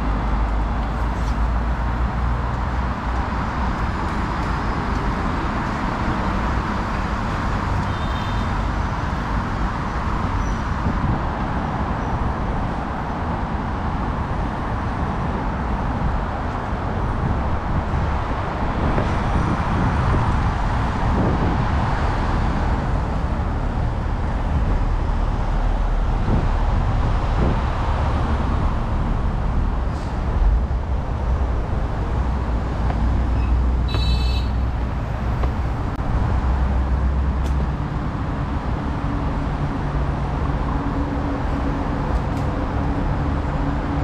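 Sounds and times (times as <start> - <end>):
city street traffic: 0.0 - 44.0.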